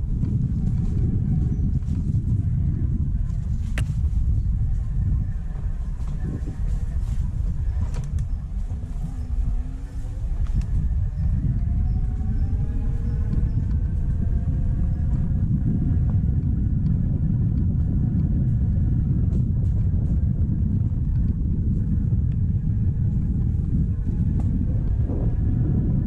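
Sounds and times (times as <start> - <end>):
ground and wind rumble: 0.0 - 26.0.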